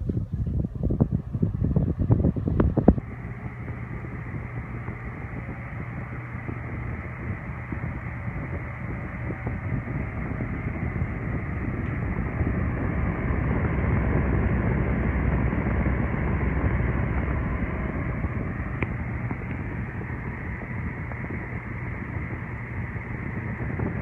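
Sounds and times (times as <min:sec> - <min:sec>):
table fan running: 0:00.0 - 0:24.0.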